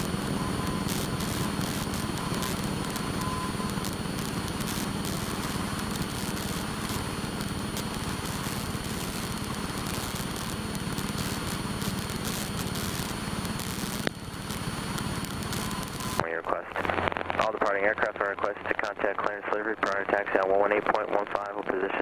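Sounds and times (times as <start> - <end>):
light aircraft engine droning: 0.0 - 22.0.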